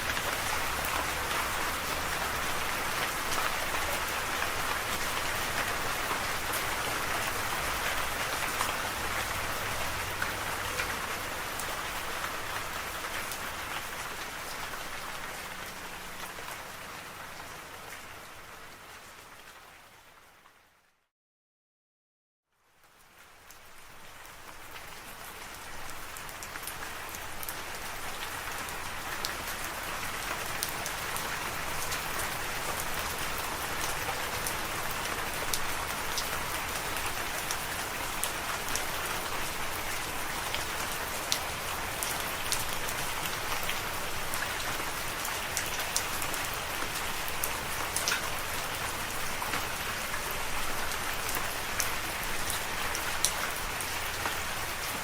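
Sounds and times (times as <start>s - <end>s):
steady rain: 0.0s - 20.8s, 22.5s - 55.0s.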